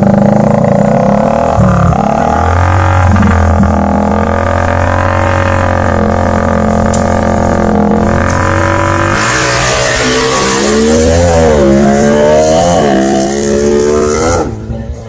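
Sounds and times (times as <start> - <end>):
motorcycle engine revving: 0.0 - 15.0
steady droning tone: 0.0 - 15.0.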